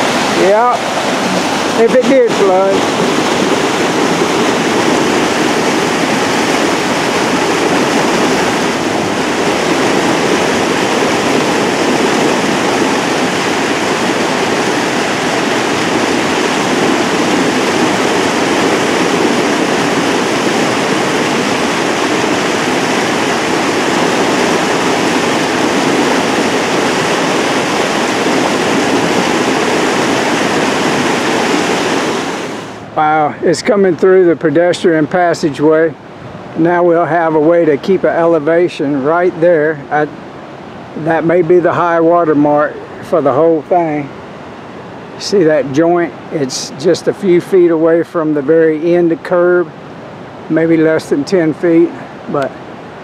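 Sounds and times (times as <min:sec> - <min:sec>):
water rushing over dam: 0:00.0 - 0:53.0.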